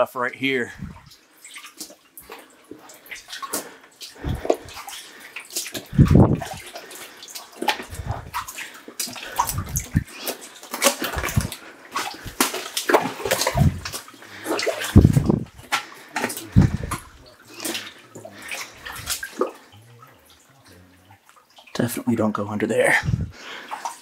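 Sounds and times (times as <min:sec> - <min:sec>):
water dripping: 0:00.0 - 0:24.0
footsteps splashing in water: 0:00.9 - 0:20.5, 0:23.4 - 0:24.0.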